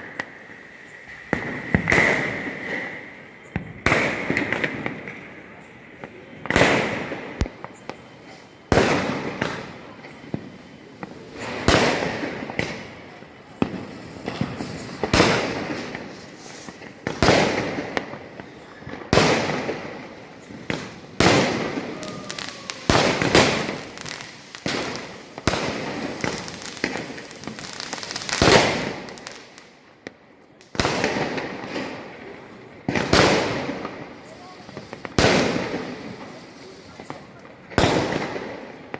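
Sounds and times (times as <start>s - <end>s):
firecrackers banging: 1.0s - 29.6s, 30.7s - 38.9s.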